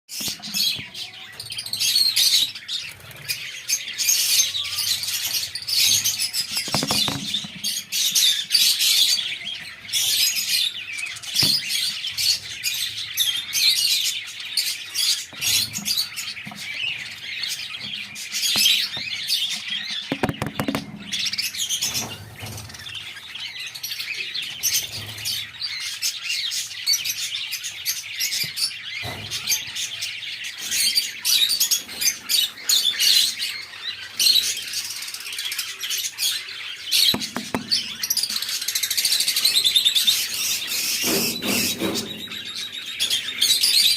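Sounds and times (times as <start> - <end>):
caged birds chirping: 0.1 - 43.9.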